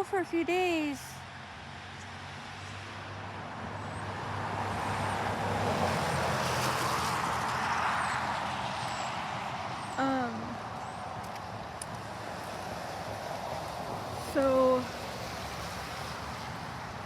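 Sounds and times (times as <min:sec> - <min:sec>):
car passing by: 0:01.6 - 0:17.0.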